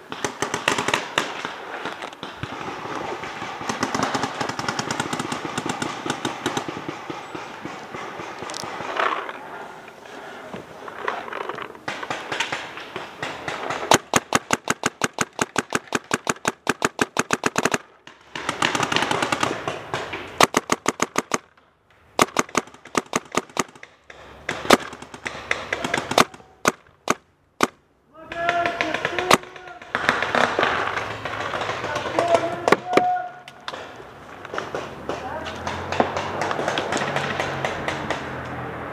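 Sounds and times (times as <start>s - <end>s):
paintball markers firing: 0.0s - 9.3s, 11.2s - 38.6s.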